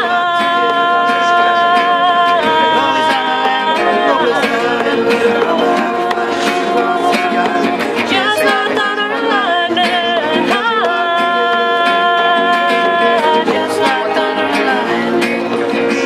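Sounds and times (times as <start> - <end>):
box drum beat: 0.0 - 16.0
fiddle melody: 0.0 - 16.0
strummed acoustic guitars: 0.0 - 16.0.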